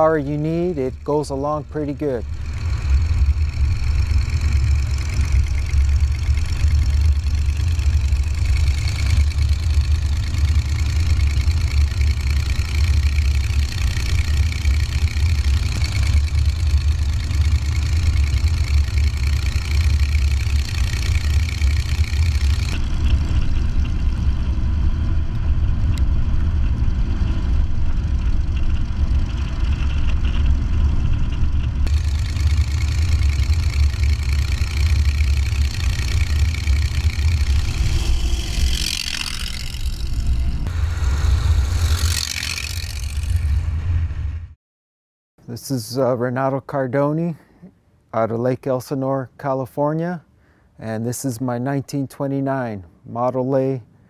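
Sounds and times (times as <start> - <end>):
truck engine rumbling: 0.0 - 44.6.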